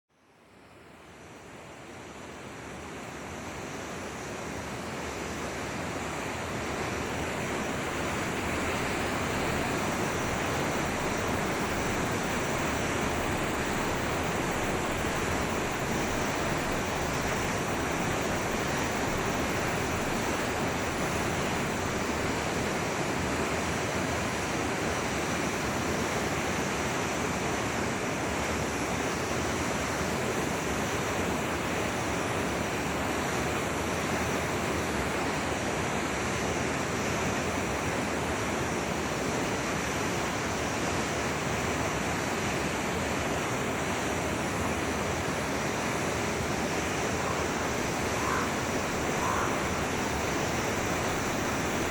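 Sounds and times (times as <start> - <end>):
river water rushing: 0.4 - 51.9.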